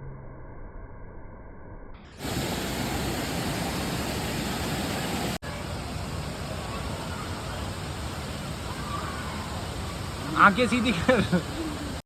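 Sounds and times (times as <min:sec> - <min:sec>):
waterfall rushing: 0:02.2 - 0:12.0.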